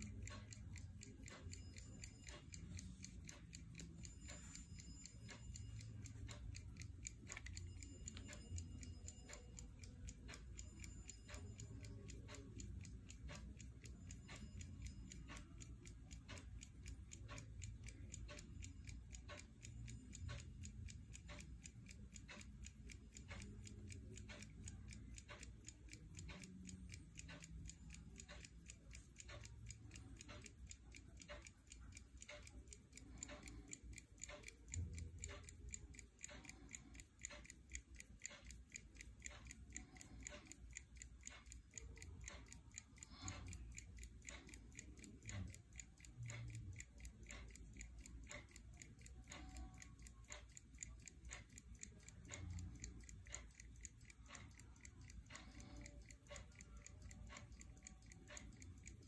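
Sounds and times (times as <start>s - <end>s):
pocket watch ticking: 0.0s - 59.0s.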